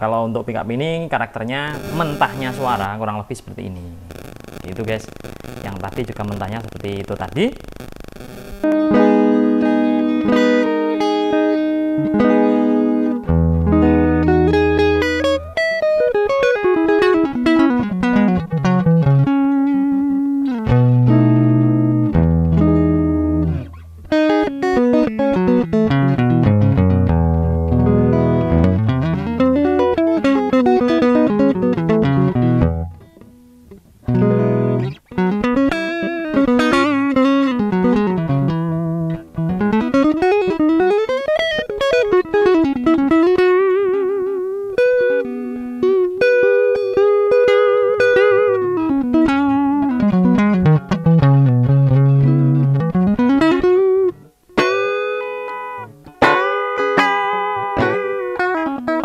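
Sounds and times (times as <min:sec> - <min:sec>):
electric guitar playing: 0:01.7 - 0:02.9, 0:03.8 - 0:59.0.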